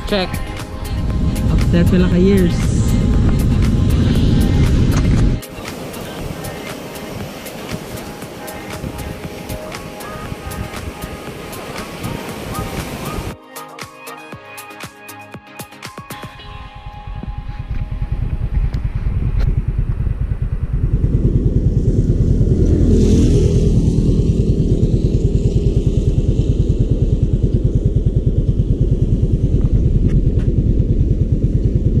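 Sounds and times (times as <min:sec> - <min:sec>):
scooter engine running: 0:00.0 - 0:13.4, 0:17.3 - 0:32.0.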